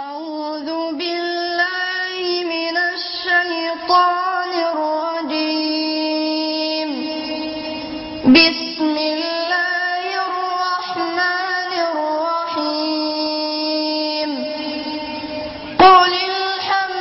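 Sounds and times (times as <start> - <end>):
high voice singing long notes: 0.0 - 17.0.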